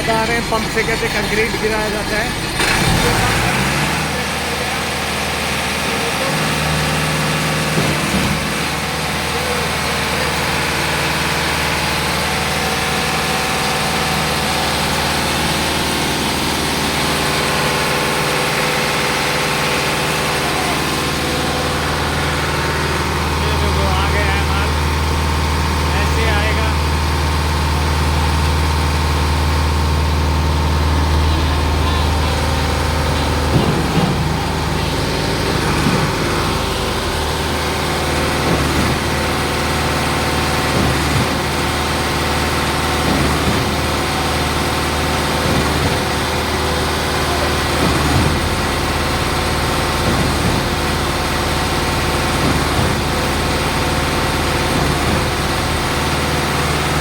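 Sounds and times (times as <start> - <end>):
concrete pump engine running: 0.0 - 57.0.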